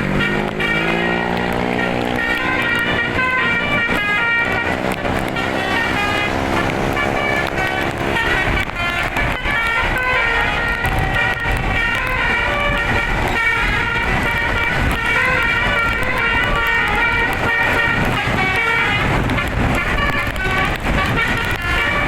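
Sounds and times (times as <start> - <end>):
bus multi-horn playing melody: 0.0 - 22.0.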